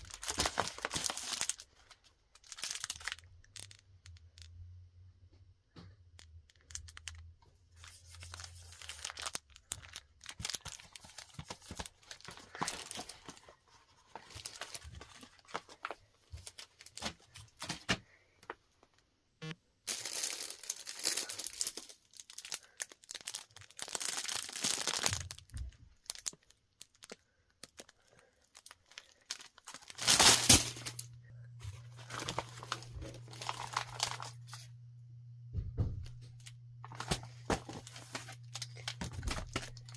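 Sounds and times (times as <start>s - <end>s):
packaging crinkling and tearing: 0.0s - 4.5s, 6.2s - 18.0s, 19.9s - 34.8s, 36.4s - 39.9s.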